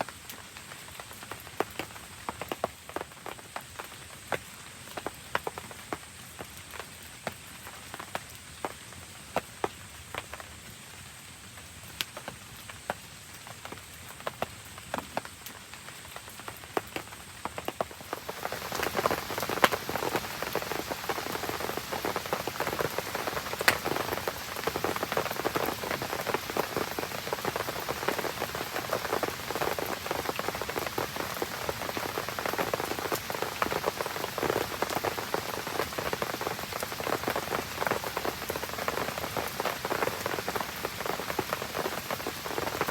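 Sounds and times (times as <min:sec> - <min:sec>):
rain falling: 0:00.0 - 0:42.9.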